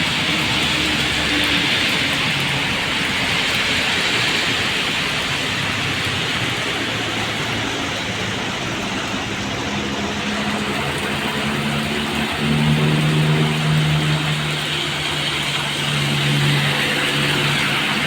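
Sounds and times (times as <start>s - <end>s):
steady rain: 0.0s - 18.0s
traffic on wet street: 0.0s - 18.0s
vehicle engine hum: 0.0s - 18.0s.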